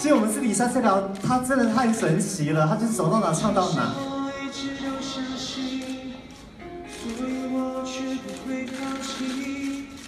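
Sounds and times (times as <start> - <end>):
karaoke backing track: 0.0 - 10.0.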